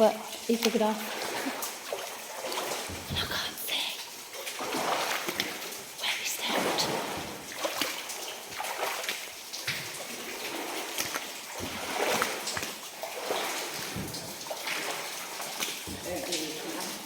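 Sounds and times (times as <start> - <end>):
boots wading through water: 0.4 - 3.3, 4.2 - 17.0.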